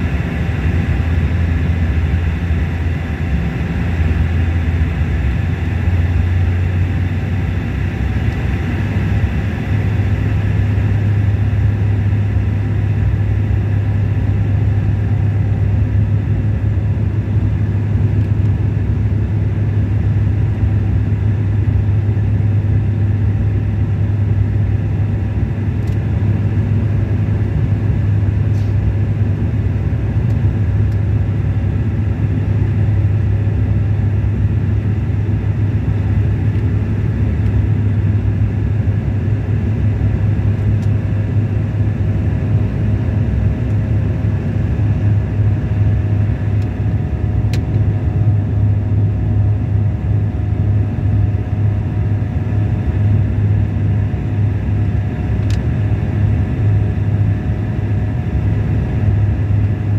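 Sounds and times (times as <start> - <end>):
turboprop engine drone in cabin: 0.0 - 59.9.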